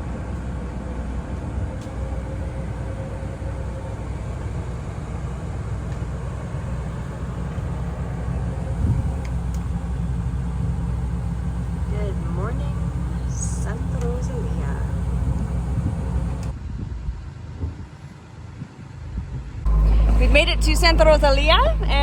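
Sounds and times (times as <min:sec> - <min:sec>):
boat engine droning: 0:00.0 - 0:16.5, 0:19.7 - 0:22.0.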